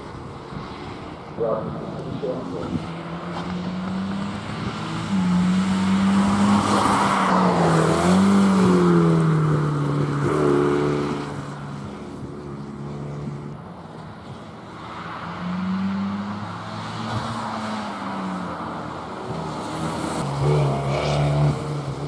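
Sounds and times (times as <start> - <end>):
car approaching: 0.0 - 22.0
race car engine at high revs: 0.0 - 22.0.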